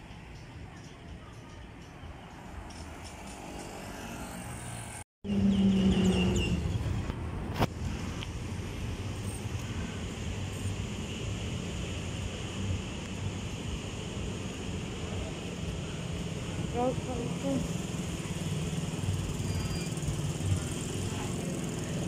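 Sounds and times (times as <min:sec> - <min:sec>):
cars driving by: 0:01.1 - 0:22.0.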